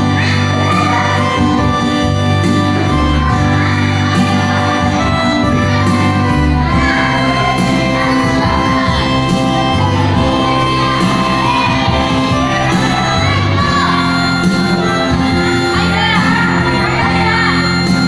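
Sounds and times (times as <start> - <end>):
worship band playing: 0.0 - 18.0.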